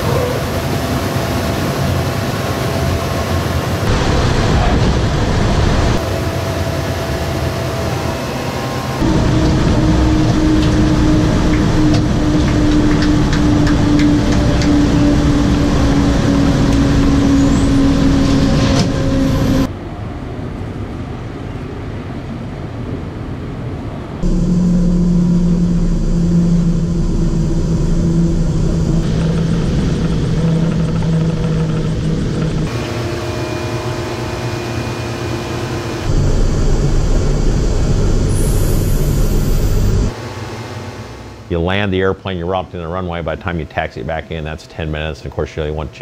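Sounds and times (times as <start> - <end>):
propeller aircraft engines droning: 0.0 - 46.0.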